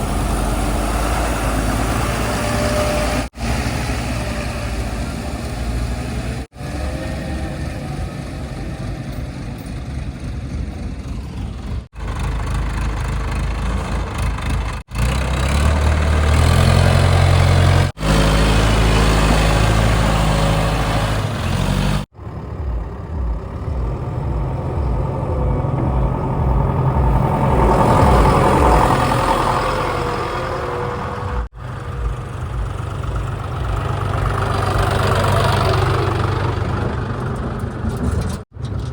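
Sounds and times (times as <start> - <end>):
heavy diesel engines revving: 0.0 - 38.6.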